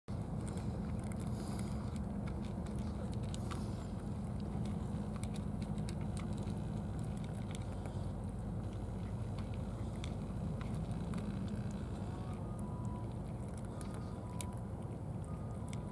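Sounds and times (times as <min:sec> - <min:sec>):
cats chewing and licking: 0:00.1 - 0:15.9.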